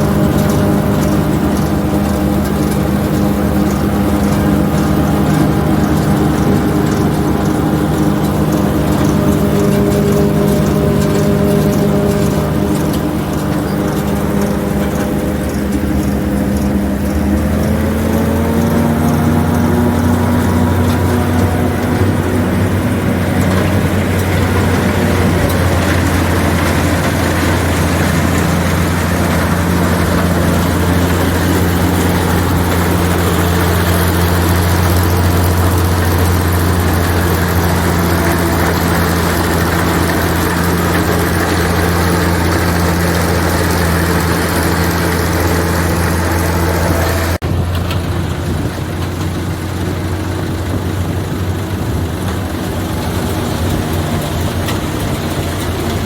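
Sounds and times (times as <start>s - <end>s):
forage harvester chopping: 0.0s - 56.0s
tractor engine running: 0.0s - 56.0s.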